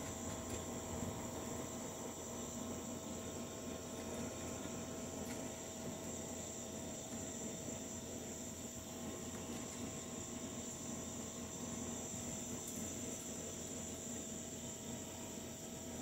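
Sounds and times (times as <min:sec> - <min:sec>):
chorus of night insects: 0:00.0 - 0:16.0.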